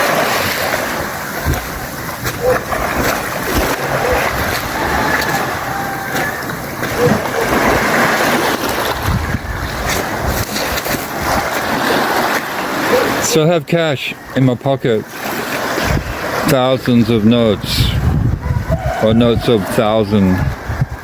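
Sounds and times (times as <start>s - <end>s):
waves washing on a beach: 0.0s - 21.0s
wind buffeting the microphone: 0.2s - 13.2s, 15.6s - 21.0s.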